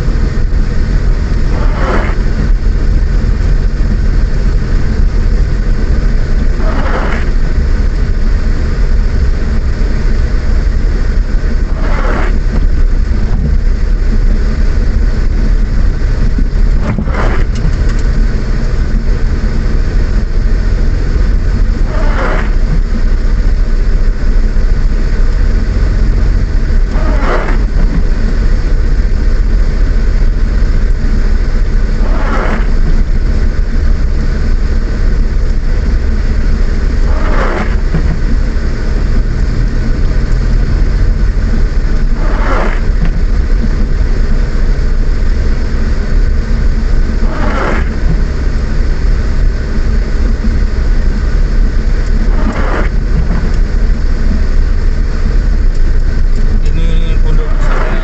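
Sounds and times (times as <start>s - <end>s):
engine and tyres rumbling: 0.0s - 58.0s
windscreen wiper sweeping: 0.0s - 58.0s.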